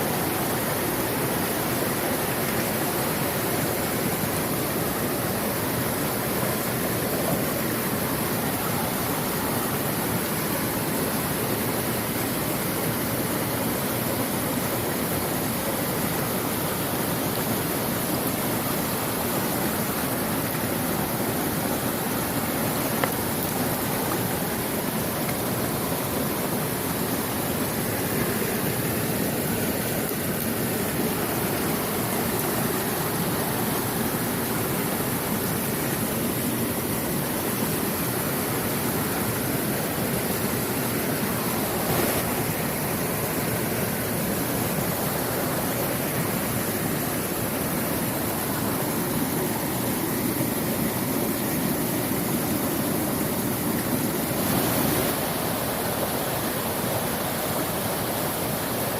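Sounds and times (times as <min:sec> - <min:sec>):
stream rushing: 0:00.0 - 0:58.9.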